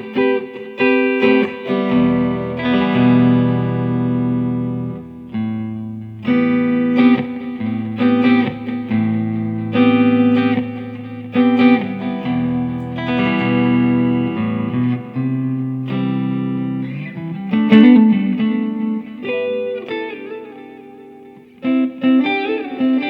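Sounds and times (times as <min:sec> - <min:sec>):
electric guitar notes and chords: 0:00.0 - 0:23.0.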